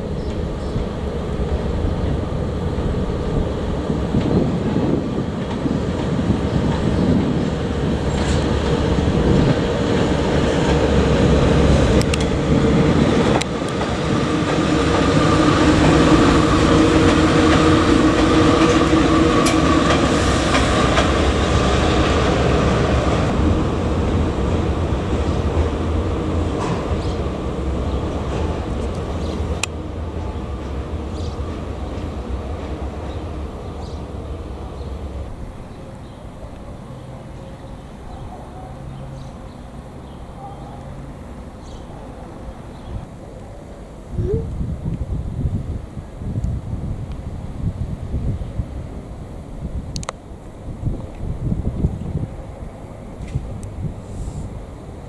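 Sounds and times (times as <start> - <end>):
electric locomotive rumble and hum: 0.0 - 38.4, 39.2 - 55.0.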